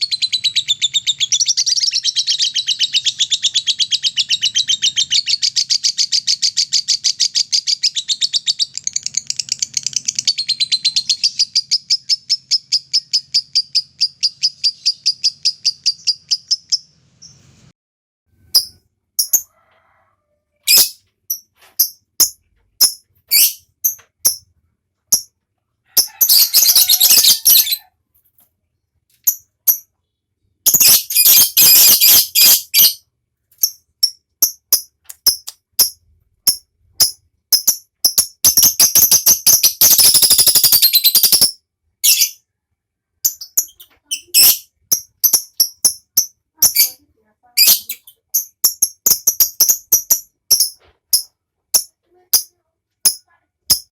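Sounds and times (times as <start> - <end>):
lovebird chirping and trilling: 0.0 - 17.7, 18.4 - 19.5, 20.6 - 24.5, 25.1 - 25.3, 26.0 - 27.9, 29.2 - 42.6, 43.2 - 53.9.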